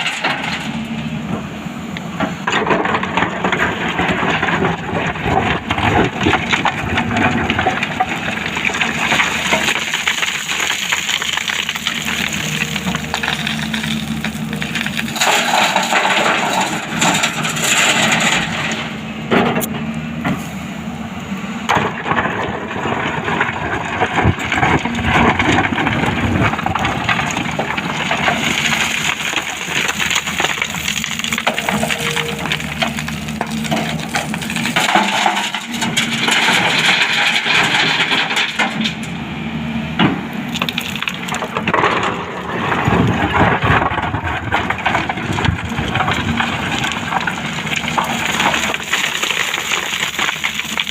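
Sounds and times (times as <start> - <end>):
excavator engine hum: 0.0 - 50.9
crunching and cracking of rock: 2.4 - 18.9, 21.7 - 39.1, 40.0 - 50.9.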